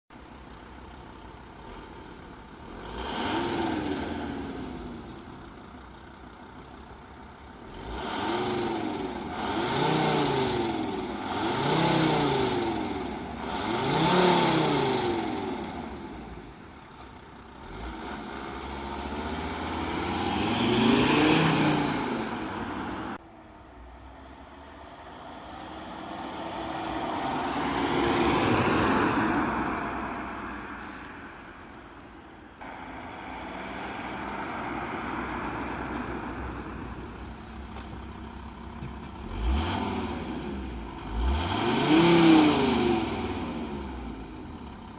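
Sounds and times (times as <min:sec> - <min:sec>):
diesel engine idling and revving: 0:00.1 - 0:44.9.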